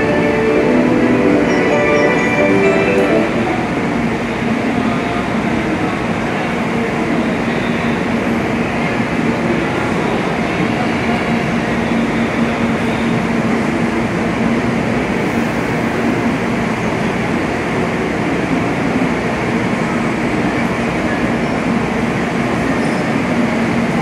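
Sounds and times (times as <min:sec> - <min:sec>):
train humming with low drone: 0:00.0 - 0:24.0.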